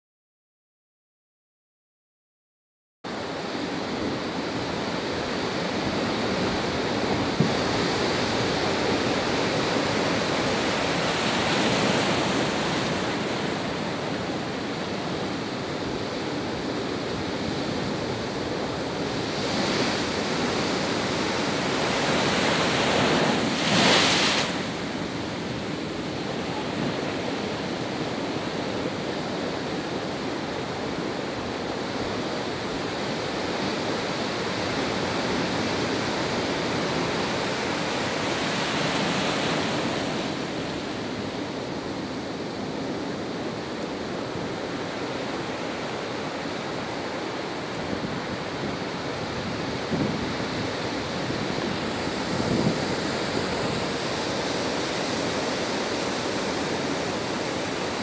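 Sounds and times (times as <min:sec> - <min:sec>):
wind: 0:03.0 - 0:58.0
storm surf breaking: 0:03.4 - 0:58.0.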